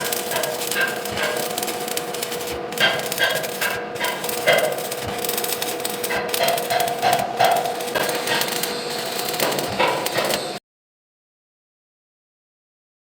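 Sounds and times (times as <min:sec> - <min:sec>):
crackling hissing welding arc: 0:00.0 - 0:10.6.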